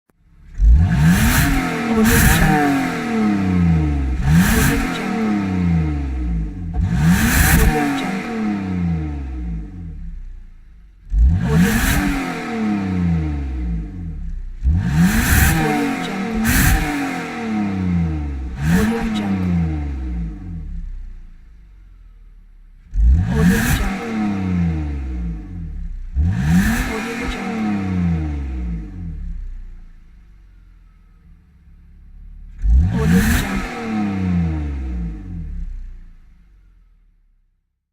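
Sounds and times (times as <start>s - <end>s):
car engine revving: 0.2s - 37.0s.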